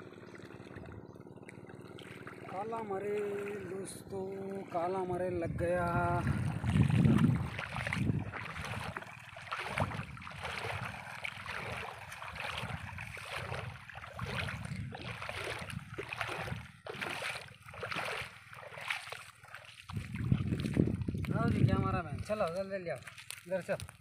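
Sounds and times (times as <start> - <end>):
footsteps splashing through water: 0.0 - 24.0.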